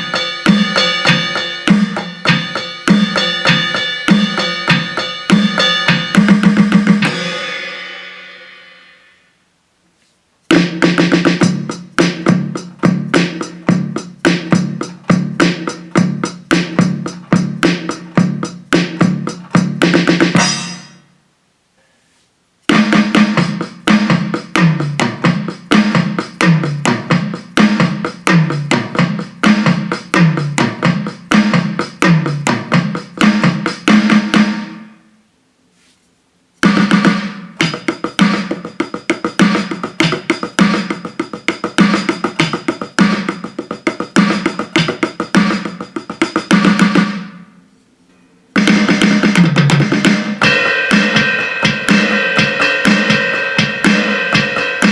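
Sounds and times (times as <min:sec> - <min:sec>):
electronic drum patterns: 0:00.0 - 0:09.0, 0:10.5 - 0:21.1, 0:22.6 - 0:34.9, 0:36.6 - 0:47.6, 0:48.6 - 0:54.9.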